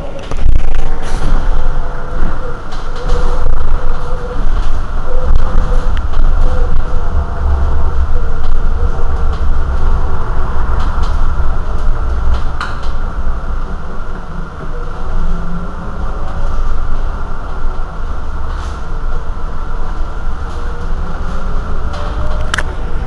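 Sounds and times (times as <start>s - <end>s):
bus rumble and hum: 0.0s - 23.0s.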